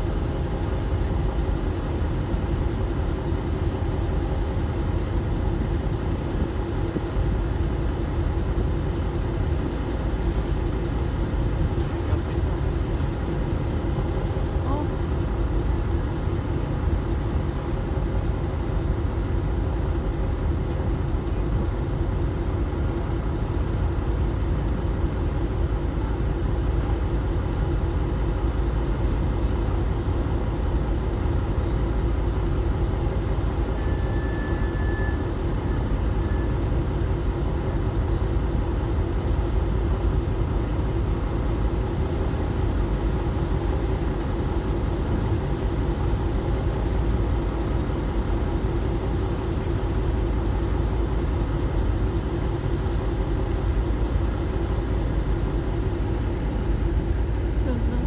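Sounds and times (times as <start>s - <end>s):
large engine droning: 0.0s - 58.0s.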